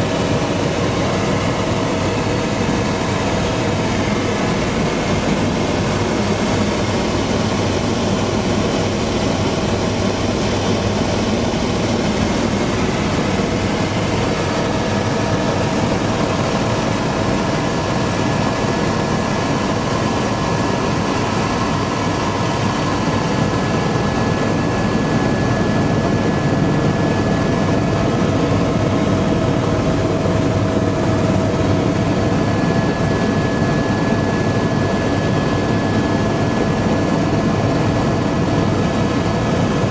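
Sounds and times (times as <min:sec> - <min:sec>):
helicopter engine and rotor rumble: 0:00.0 - 0:39.9
turbine whine: 0:00.0 - 0:39.9.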